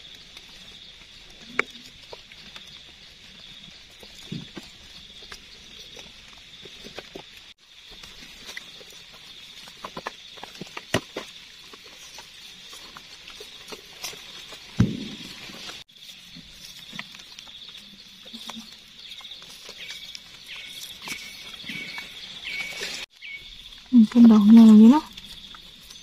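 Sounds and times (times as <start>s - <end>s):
dry leaves rustling: 0.0s - 26.0s.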